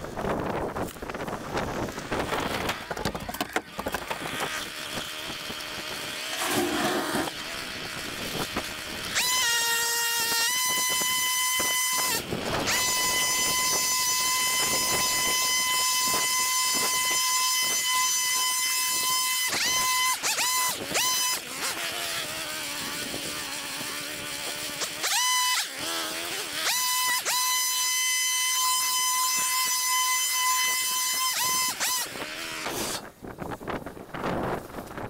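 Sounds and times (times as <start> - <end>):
leaf blower high whine: 0.9 - 33.1.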